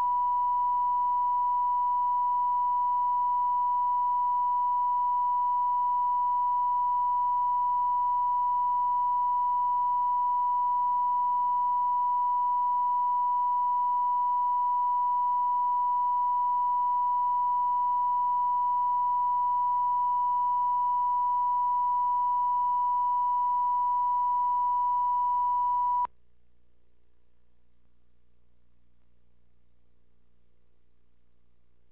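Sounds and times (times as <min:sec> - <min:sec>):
faint hum: 0:00.0 - 0:31.9.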